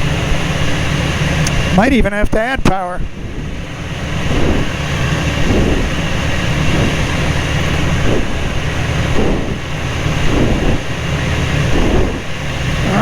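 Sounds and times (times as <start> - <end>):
propeller plane engine running: 0.0 - 13.0
wind noise: 0.0 - 13.0.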